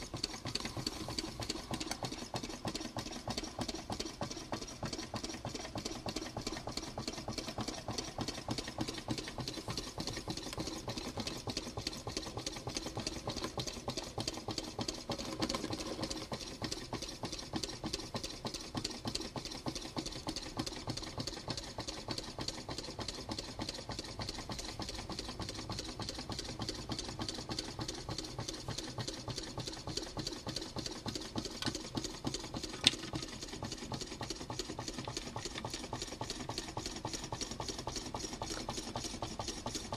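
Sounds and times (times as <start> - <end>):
small engine linkage clicking rapidly: 0.0 - 39.9.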